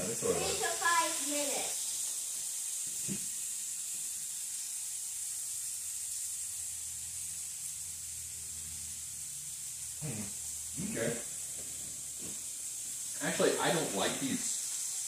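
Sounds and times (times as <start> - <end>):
green beans sizzling in pan: 0.0 - 15.0.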